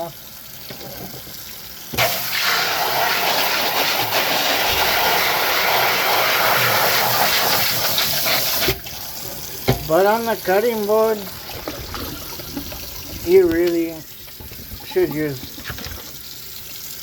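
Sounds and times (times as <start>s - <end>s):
faucet water running into sink: 0.0s - 17.0s
utensils being rinsed: 0.0s - 17.0s.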